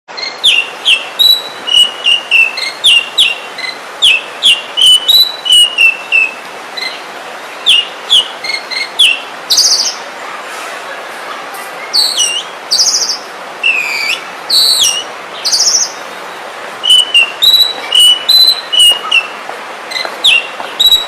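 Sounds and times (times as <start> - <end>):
bird singing whistled notes: 0.1 - 7.0, 7.6 - 10.0, 11.9 - 16.1, 16.8 - 21.0.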